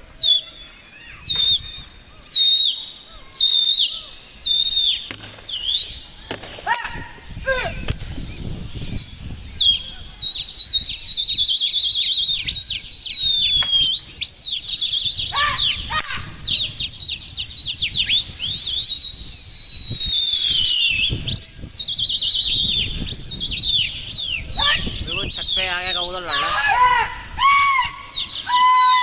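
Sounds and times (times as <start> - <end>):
people whistling loudly: 0.2 - 6.4, 8.6 - 29.0.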